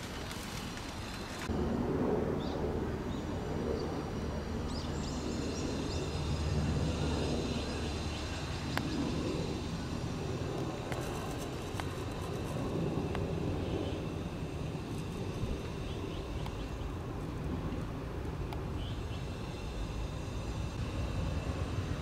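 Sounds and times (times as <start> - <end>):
open-air noise: 0.0 - 22.0.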